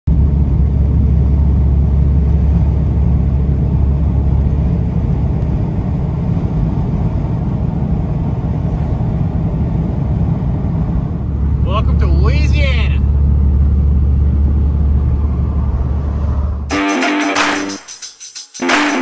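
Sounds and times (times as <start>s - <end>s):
road and engine rumble in car cabin: 0.1s - 16.7s.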